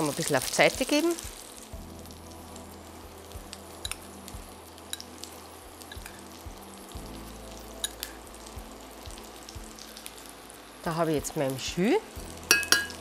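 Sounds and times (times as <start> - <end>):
onions sizzling in pan: 0.0 - 13.0.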